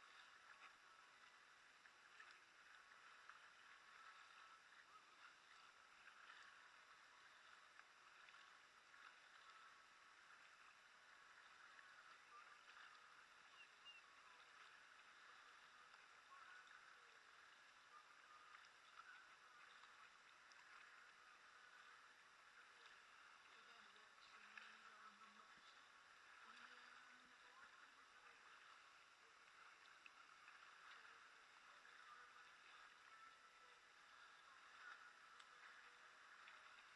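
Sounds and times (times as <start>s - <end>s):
paddle ticks: 0.0s - 36.9s
water lapping and dripping: 0.0s - 36.9s.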